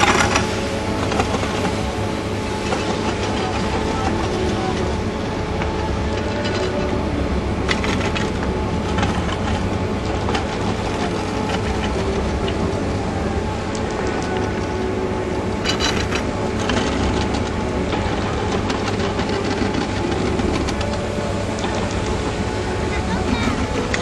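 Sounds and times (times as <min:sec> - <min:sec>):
lift machinery humming: 0:00.0 - 0:24.0.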